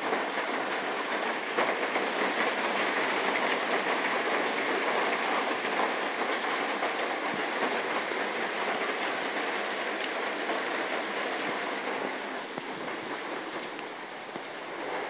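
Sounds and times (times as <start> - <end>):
hail and heavy rain: 0.0 - 15.0.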